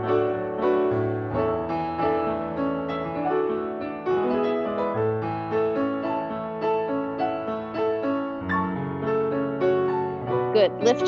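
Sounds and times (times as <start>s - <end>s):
piano playing melody and chords: 0.0s - 11.0s.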